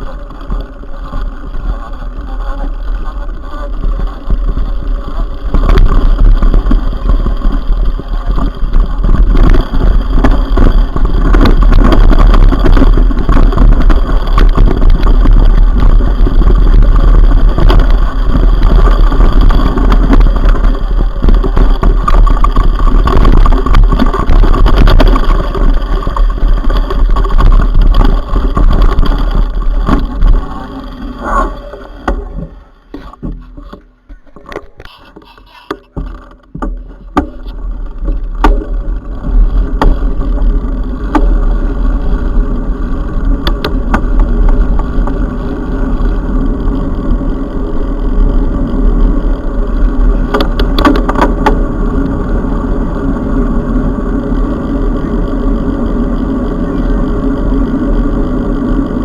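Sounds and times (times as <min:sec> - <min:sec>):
bike rattling over rough ground: 0:00.0 - 0:59.0
wind rushing over microphone: 0:00.0 - 0:59.0.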